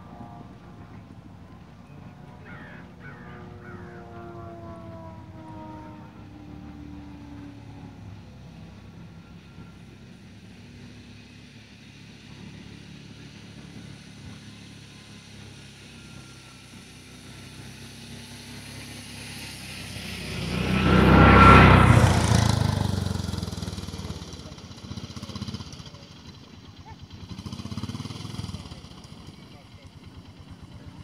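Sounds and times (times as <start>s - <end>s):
vehicle engine passing by: 0.0s - 31.0s.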